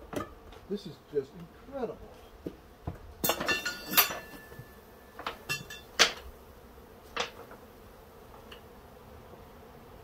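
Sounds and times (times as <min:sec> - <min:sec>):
bee swarm buzzing: 0:00.0 - 0:10.0.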